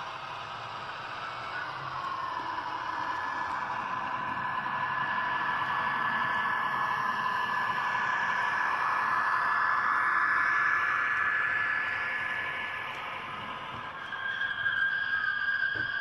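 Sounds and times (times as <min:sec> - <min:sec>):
model train wheels rushing on rails: 0:00.0 - 0:16.0
thin high whine: 0:00.0 - 0:16.0.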